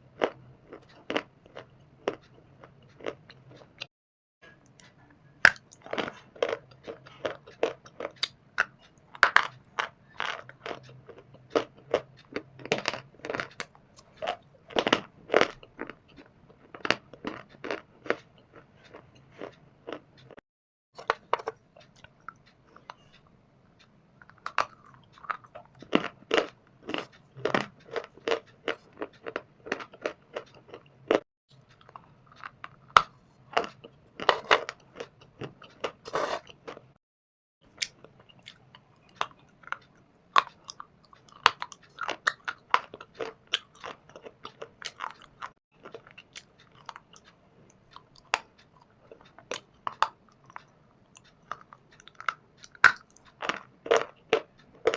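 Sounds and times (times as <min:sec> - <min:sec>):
person chewing stone crunching: 0:00.0 - 0:03.9, 0:05.5 - 0:20.4, 0:21.0 - 0:23.3, 0:24.2 - 0:37.0, 0:37.6 - 0:54.9.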